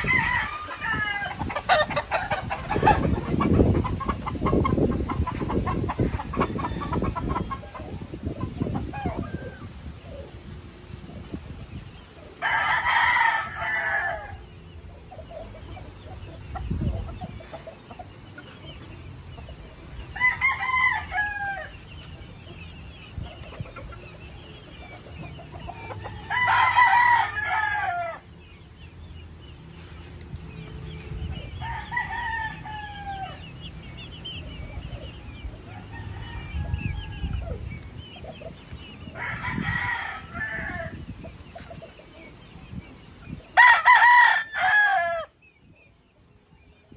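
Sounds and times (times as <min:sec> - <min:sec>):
roosters crowing: 0:00.0 - 0:10.8, 0:11.4 - 0:22.5, 0:23.6 - 0:29.5, 0:30.5 - 0:45.6.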